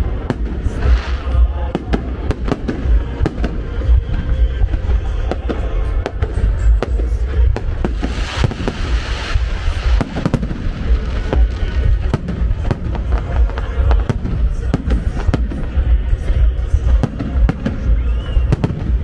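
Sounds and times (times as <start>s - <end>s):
fireworks bangs and booms: 0.0s - 19.0s
fireworks crackling: 0.0s - 19.0s
music: 0.0s - 19.0s.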